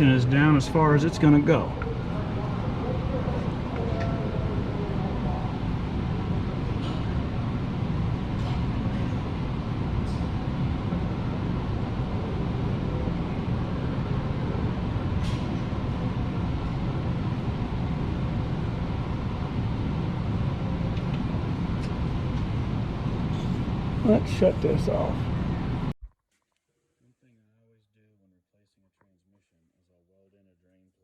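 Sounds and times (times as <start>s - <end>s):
low machine drone: 0.0s - 25.9s.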